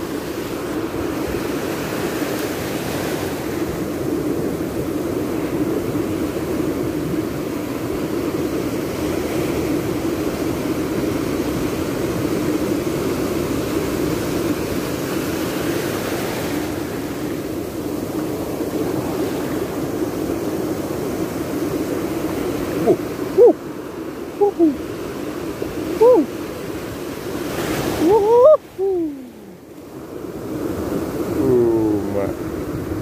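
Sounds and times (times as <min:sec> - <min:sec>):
surf washing up a beach: 0:00.0 - 0:33.0.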